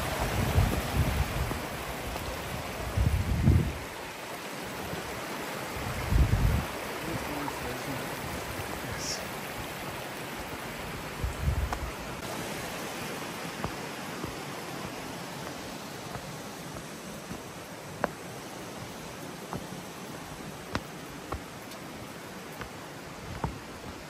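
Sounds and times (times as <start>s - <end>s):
stream running over stones: 0.0s - 24.0s.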